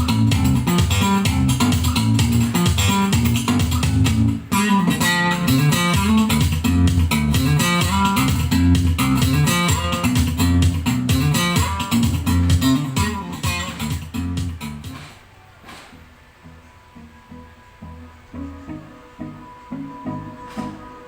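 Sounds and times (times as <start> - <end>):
instrumental music with guitars: 0.0 - 15.2, 15.9 - 21.0.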